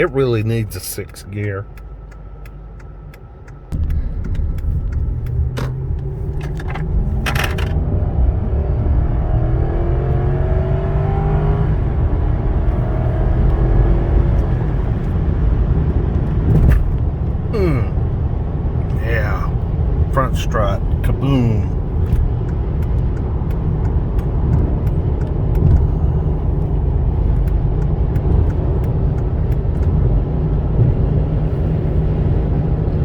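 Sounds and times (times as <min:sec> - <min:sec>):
car road and wind noise: 0:00.0 - 0:33.0.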